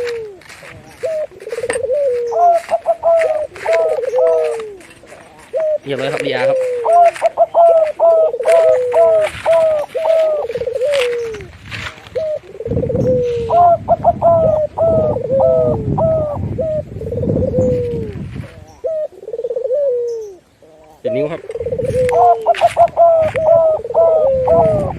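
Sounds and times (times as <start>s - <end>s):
doves cooing: 0.0s - 24.9s.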